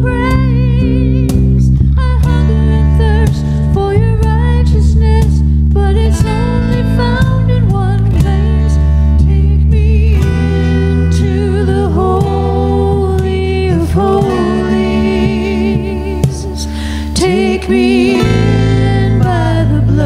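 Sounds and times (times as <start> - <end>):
acoustic guitars: 0.0 - 20.0
held bass notes: 0.0 - 20.0
person singing: 0.0 - 20.0.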